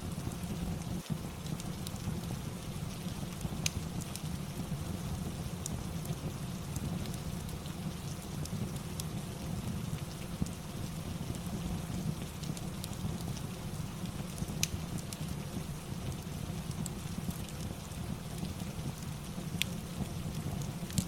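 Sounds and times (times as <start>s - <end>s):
steady rain: 0.0s - 21.0s
fireplace crackles: 0.1s - 21.0s.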